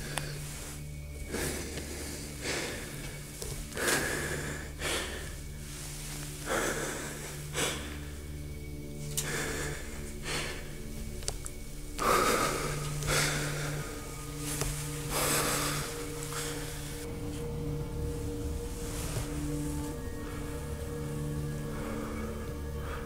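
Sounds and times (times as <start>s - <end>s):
low droning music: 0.0s - 23.0s
slow heavy breathing: 0.0s - 23.0s.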